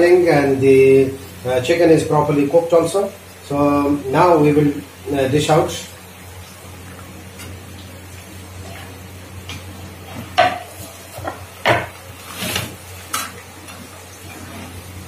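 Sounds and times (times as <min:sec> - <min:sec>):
faint oil sizzling: 0:00.0 - 0:15.0.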